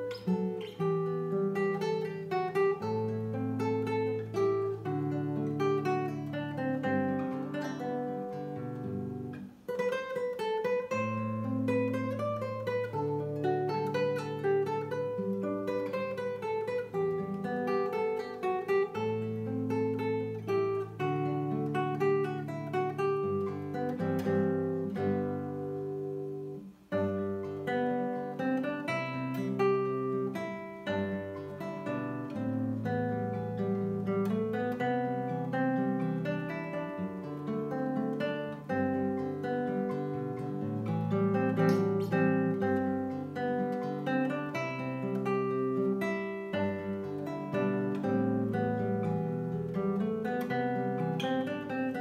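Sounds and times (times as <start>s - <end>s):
fingerstyle classical guitar: 0.0s - 52.0s.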